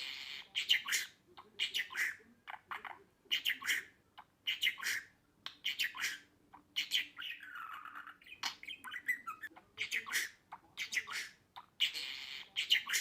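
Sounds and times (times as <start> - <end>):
budgerigar chirping: 0.0 - 13.0.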